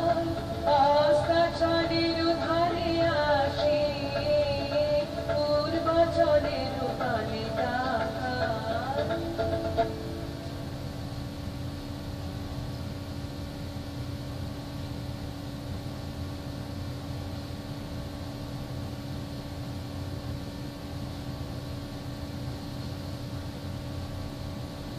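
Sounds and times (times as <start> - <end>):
machine hum: 0.0 - 24.9.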